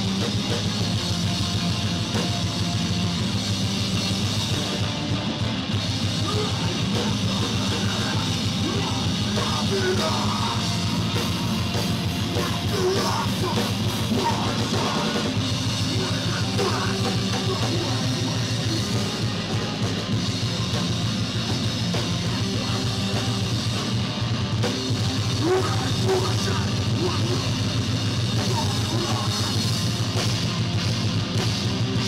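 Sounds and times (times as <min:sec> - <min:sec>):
distorted electric guitar: 0:00.0 - 0:32.0
drum kit: 0:00.0 - 0:32.0.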